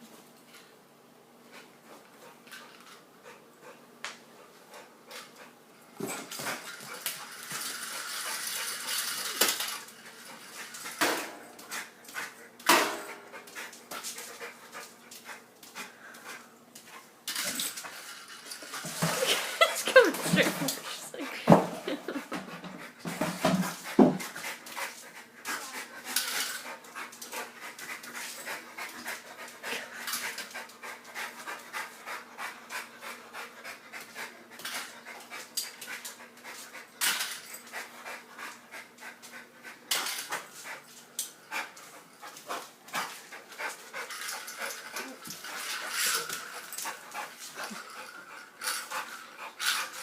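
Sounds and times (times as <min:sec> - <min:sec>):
dog panting: 0:01.6 - 0:05.6, 0:11.6 - 0:17.1, 0:18.6 - 0:50.0.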